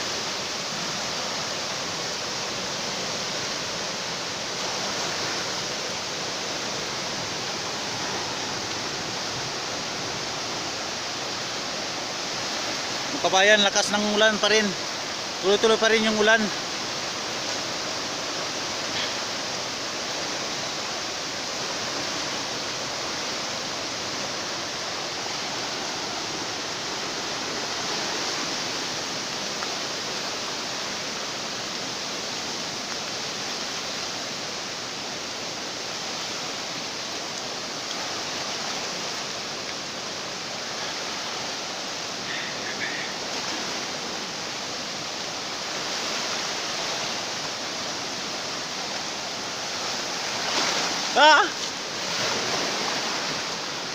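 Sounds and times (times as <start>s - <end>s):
floodwater flowing fast: 0.0s - 53.9s
heavy rain falling: 0.0s - 53.9s.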